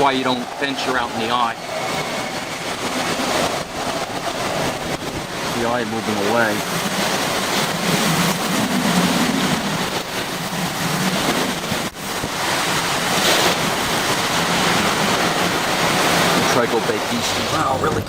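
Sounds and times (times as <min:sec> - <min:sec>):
driving rain battering a vehicle: 0:00.0 - 0:18.0
strong wind: 0:00.0 - 0:18.0.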